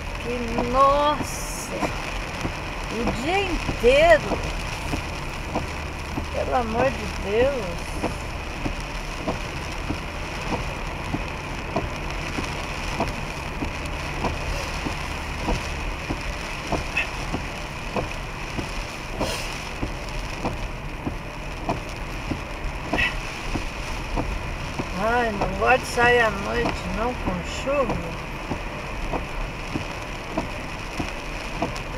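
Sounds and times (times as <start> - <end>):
rain: 0.0 - 31.9
tyre noise on wet road: 0.0 - 31.9.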